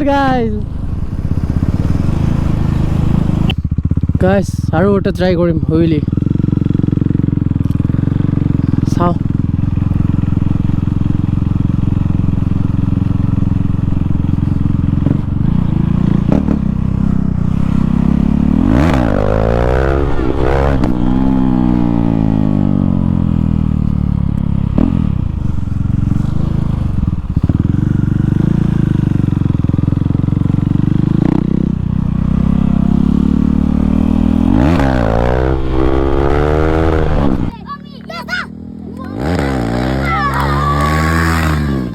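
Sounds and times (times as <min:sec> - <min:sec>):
unmuffled motorcycle engine revving: 0:00.0 - 0:41.9.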